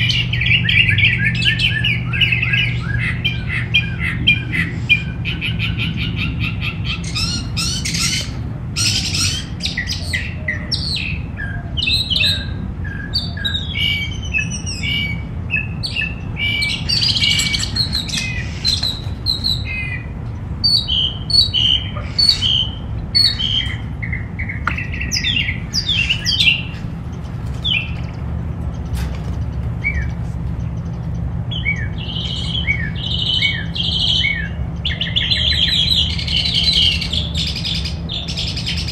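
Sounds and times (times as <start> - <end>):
songbirds chirping and singing: 0.0 - 38.9
steady low hum: 0.0 - 38.9.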